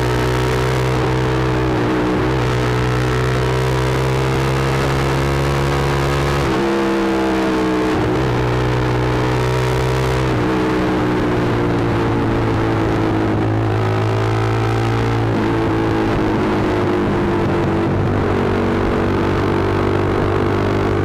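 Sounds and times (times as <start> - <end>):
motorcycle engine riding: 0.0 - 21.0.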